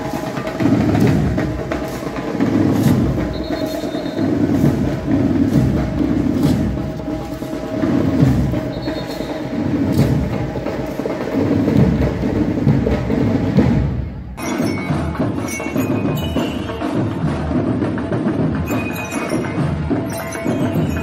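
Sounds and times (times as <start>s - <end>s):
chiming bell-like music with percussion: 0.0s - 10.8s, 14.4s - 21.0s
heavy drumming: 0.0s - 18.8s
marching band playing: 0.0s - 21.0s.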